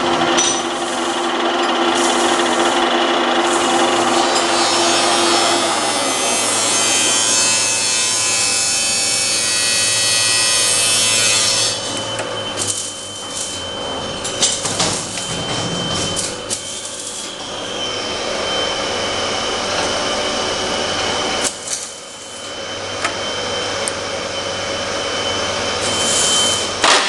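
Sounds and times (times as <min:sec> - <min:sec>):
lathe motor humming with whine: 0:00.0 - 0:14.4, 0:16.2 - 0:27.0.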